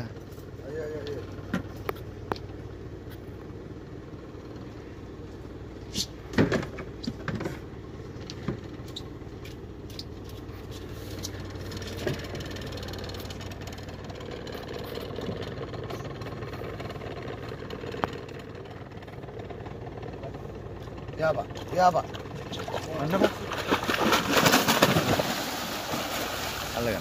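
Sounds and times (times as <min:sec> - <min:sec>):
boat engine idling: 0:00.0 - 0:27.0.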